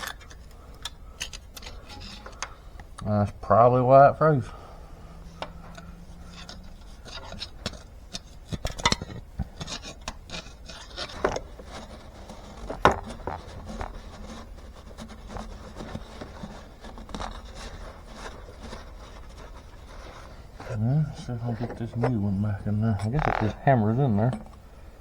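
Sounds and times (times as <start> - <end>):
scraping and rubbing on metal: 0.0 - 25.0.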